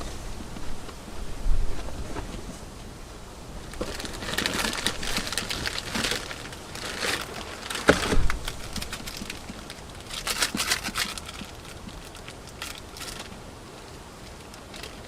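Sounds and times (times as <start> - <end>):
crinkling and rustling: 0.0 - 2.9, 3.6 - 15.0.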